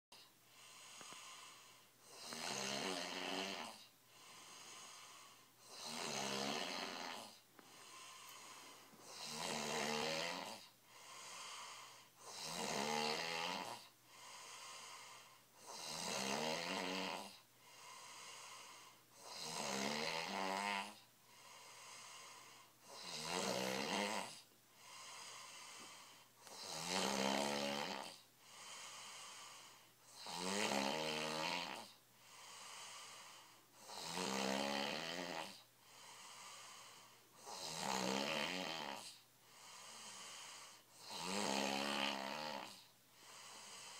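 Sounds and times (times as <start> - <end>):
man snoring heavily: 0.1 - 43.9.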